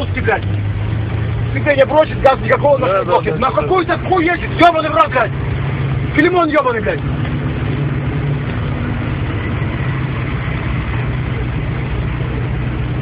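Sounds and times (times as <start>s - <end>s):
constant rushing noise: 0.0s - 13.0s
engine humming inside vehicle cabin: 0.0s - 13.0s.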